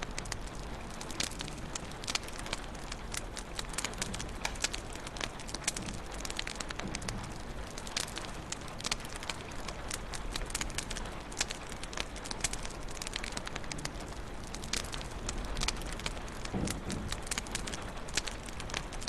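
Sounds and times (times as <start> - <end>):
fire hiss and low rumble: 0.0 - 19.0
wood fire crackling: 0.0 - 19.0.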